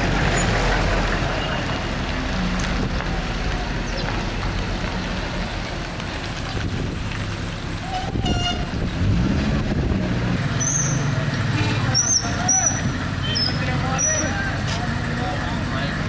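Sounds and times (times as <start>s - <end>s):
minibus engine driving past: 0.0s - 16.0s.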